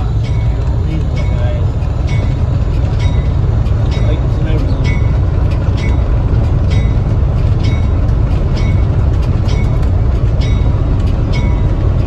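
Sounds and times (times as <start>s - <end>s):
train rumbling on rails: 0.0s - 12.0s
train wheels clicking: 0.0s - 12.0s.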